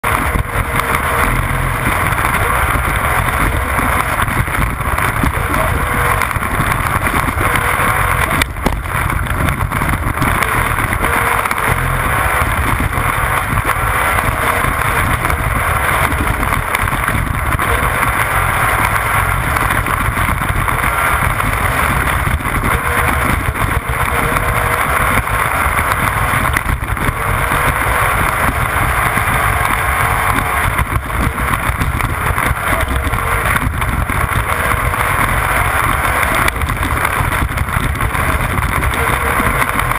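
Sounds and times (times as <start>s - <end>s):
motorboat engine drone: 0.0s - 39.9s
water rushing from wake: 0.0s - 39.9s.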